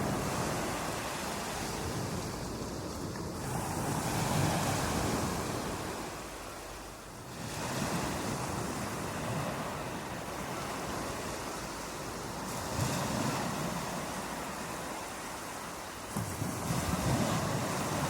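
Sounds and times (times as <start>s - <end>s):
surf wash: 0.0s - 18.0s
waves crashing on beach: 0.0s - 18.0s.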